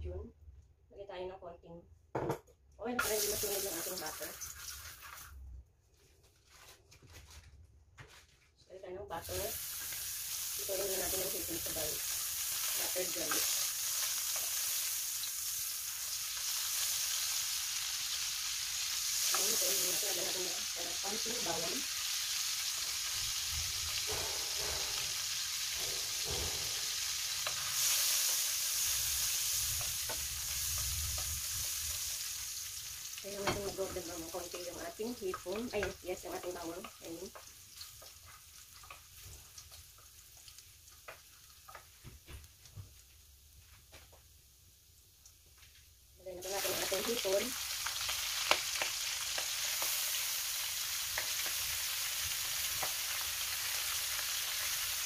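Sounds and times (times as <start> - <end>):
butter sizzling in a wok: 3.0 - 5.4, 9.1 - 55.0.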